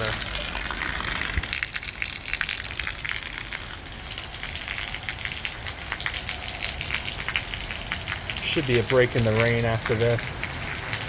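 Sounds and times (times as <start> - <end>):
heavy rain downpour: 0.0 - 11.0
water gushing: 0.0 - 11.0.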